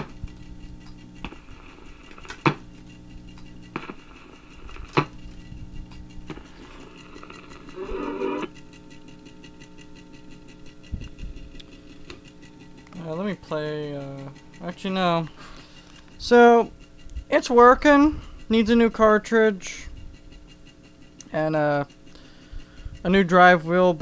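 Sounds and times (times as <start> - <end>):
record player humming: 0.0 - 24.0.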